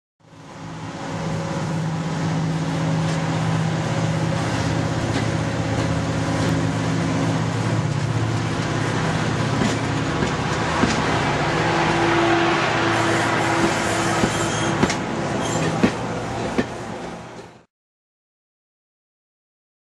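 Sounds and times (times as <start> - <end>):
diesel locomotive engine drone: 0.2 - 17.7.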